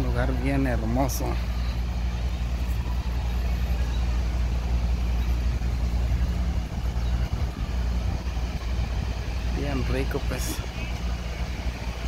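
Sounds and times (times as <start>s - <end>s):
fountain water jets spraying: 0.0s - 12.0s.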